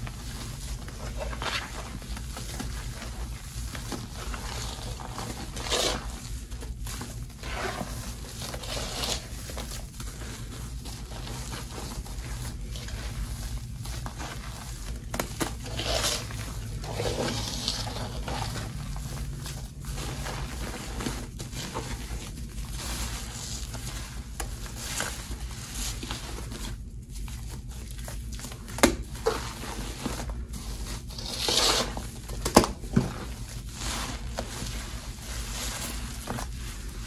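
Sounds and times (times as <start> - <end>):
sponges squishing in gritty paste: 0.0 - 37.0.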